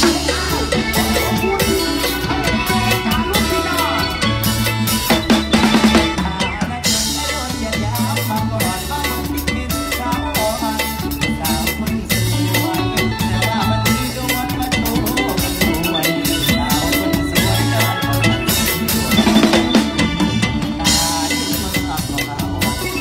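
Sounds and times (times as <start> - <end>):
bass line: 0.0 - 23.0
drum kit beat: 0.0 - 23.0
sustained melodic instruments: 0.0 - 23.0.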